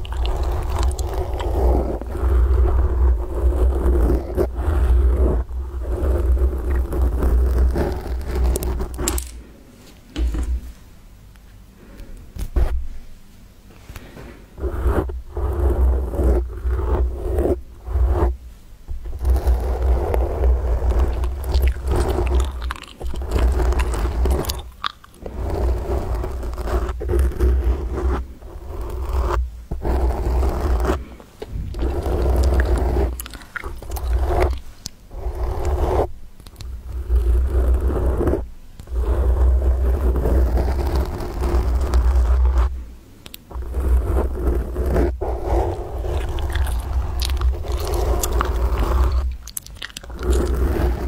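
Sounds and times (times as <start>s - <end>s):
fingers scratching on microphone: 0.0s - 9.4s, 14.6s - 51.0s.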